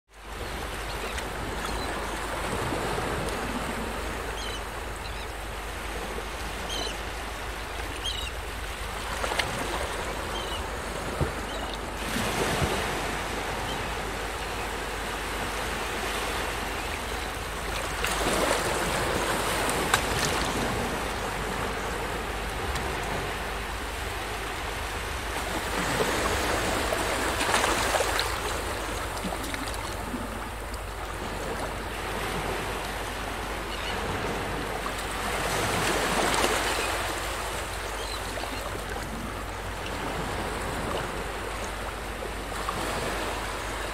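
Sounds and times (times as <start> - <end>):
sea waves washing in: 0.2 - 43.9.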